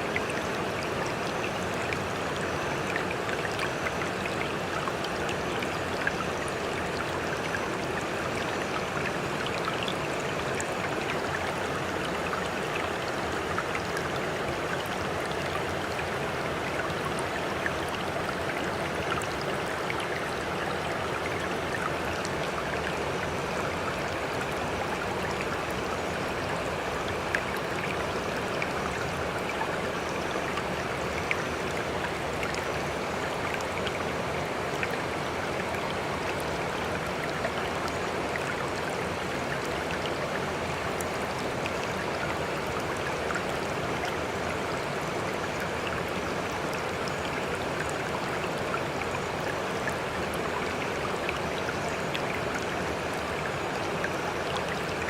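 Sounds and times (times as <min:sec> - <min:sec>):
rushing water with fizzing: 0:00.0 - 0:55.0.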